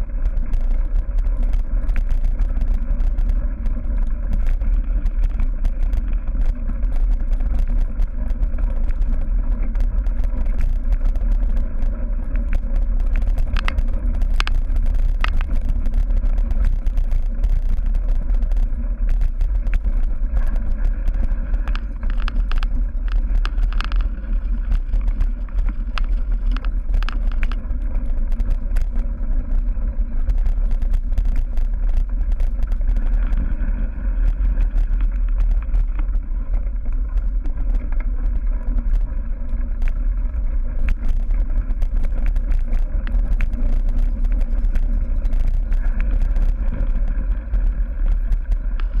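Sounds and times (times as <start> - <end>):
bike ride noise on dirt: 0.0 - 49.0
wind rumble on microphone: 0.0 - 49.0.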